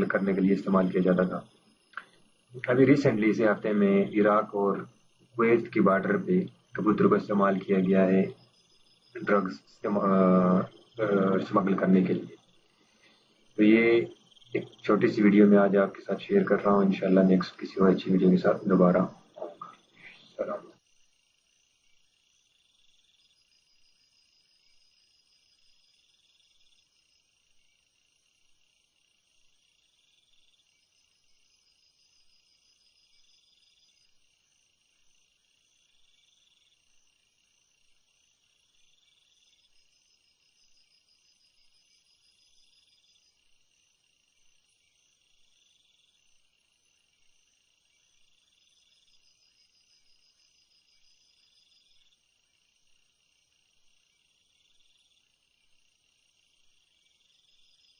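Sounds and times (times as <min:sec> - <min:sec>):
high-pitched insect trilling: 0:00.0 - 0:57.9.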